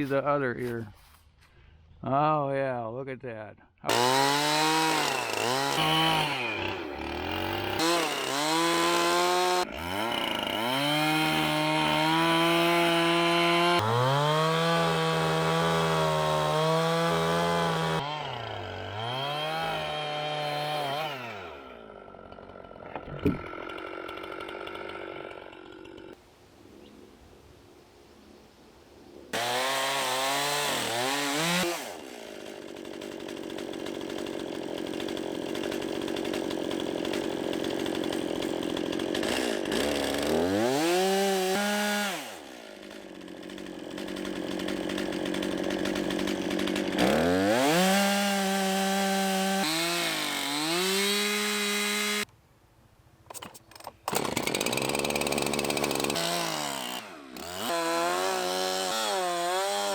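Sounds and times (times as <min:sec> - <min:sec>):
chainsaw cutting log: 0:03.9 - 0:26.2, 0:29.3 - 0:52.3, 0:53.3 - 0:59.9.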